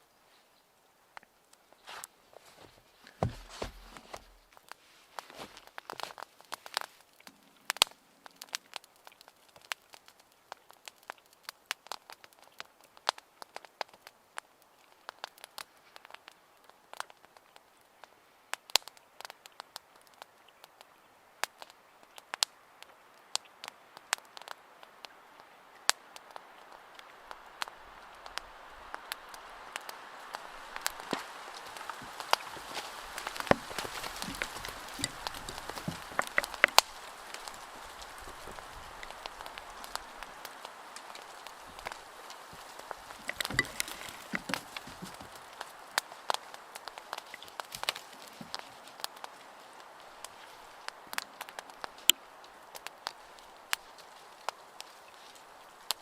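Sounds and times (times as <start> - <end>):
steady hiss: 0.0 - 56.0
wood fire crackling: 0.0 - 56.0.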